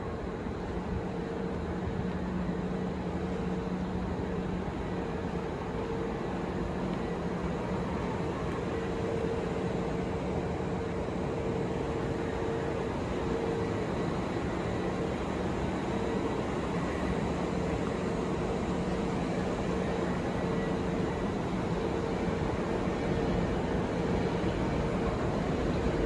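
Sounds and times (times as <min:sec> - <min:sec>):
electric train humming: 0:00.0 - 0:26.0.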